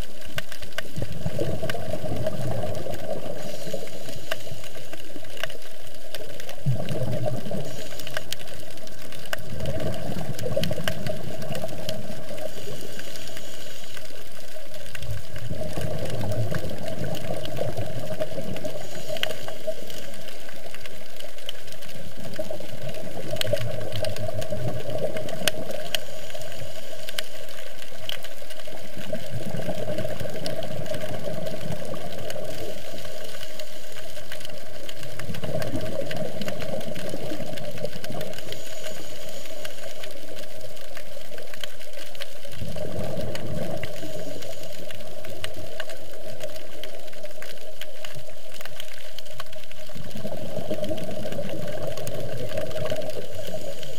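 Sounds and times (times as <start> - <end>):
low underwater rumbling: 0.0 - 53.9
underwater crackle of clicks: 0.0 - 53.9.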